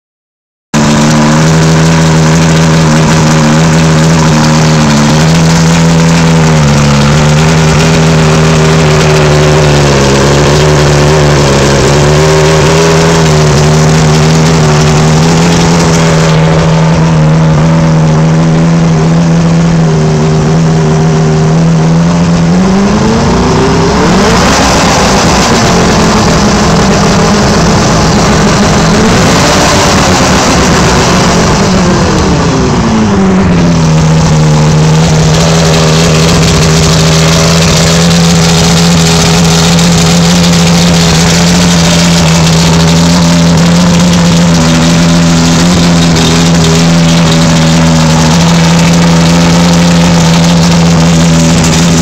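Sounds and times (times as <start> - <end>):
outboard motor running: 0.7 - 52.0.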